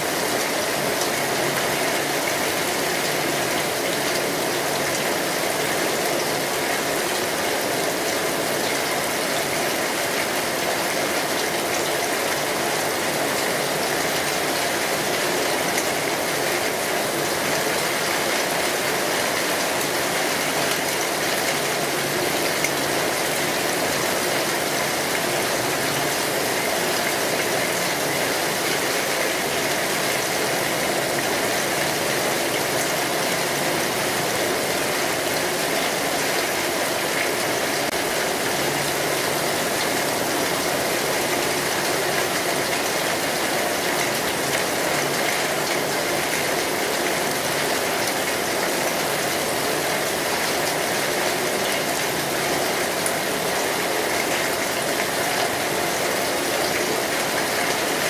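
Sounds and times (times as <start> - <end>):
steady rain on a street: 0.0 - 58.0.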